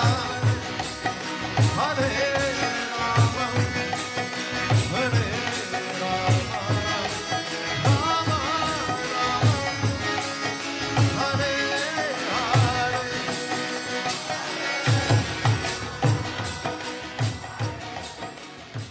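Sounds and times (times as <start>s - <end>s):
hand-drum beat: 0.0s - 18.9s
jingling percussion: 0.0s - 18.9s
person singing: 0.0s - 18.9s.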